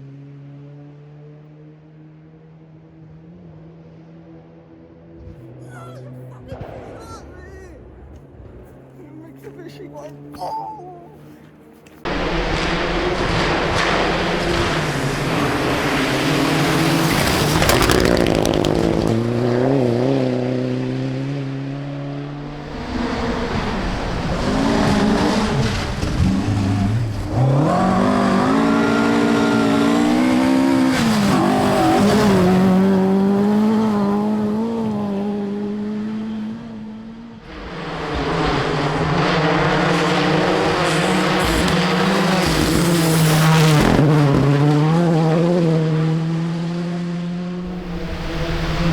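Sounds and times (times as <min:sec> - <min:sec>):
rally car engines revving hard: 0:00.0 - 0:10.5, 0:11.1 - 0:48.9.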